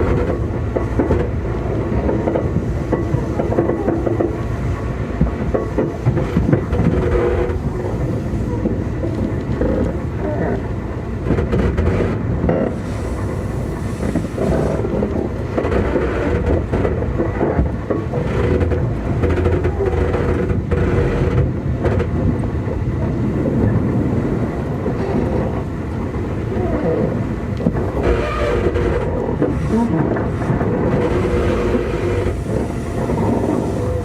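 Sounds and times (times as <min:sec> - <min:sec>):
train hum: 0:00.0 - 0:34.0
train wheel and rail noise: 0:00.0 - 0:34.0.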